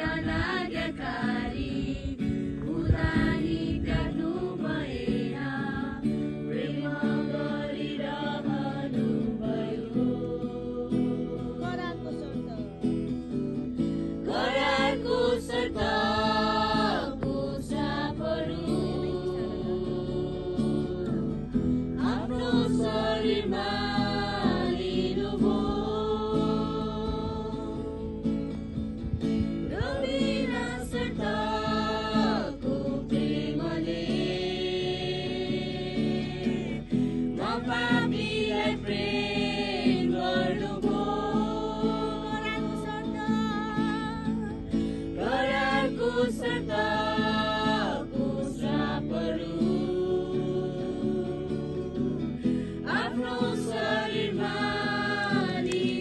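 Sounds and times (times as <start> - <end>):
group singing worship song: 0.0 - 12.0, 13.6 - 56.0
strummed acoustic guitar: 0.0 - 56.0.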